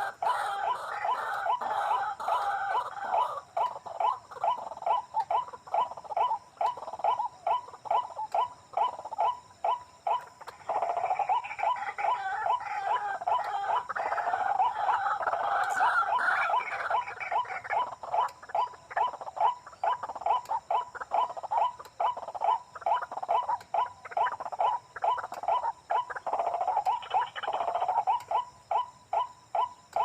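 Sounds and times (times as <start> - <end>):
waterhen chattering call: 0.0 - 30.0.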